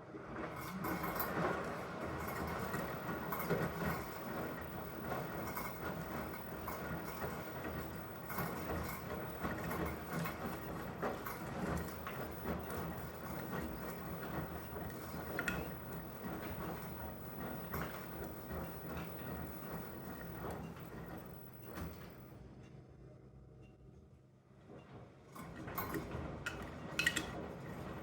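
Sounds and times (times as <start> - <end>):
washing machine running: 0.0 - 22.6, 24.6 - 28.0.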